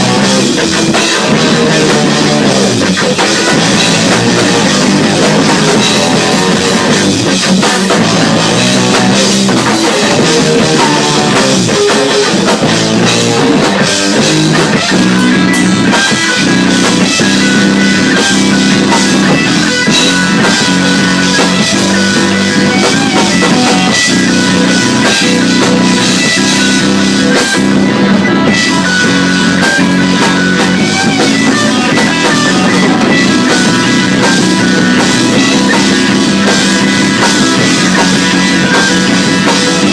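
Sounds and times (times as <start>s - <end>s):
loud rock music: 0.0s - 39.9s.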